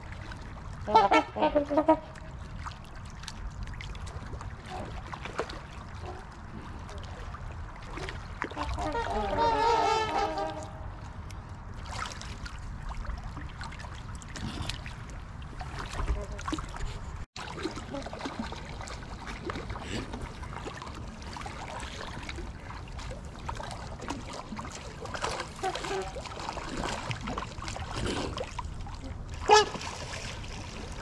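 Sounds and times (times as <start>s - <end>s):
water lapping and trickling: 0.0s - 31.0s.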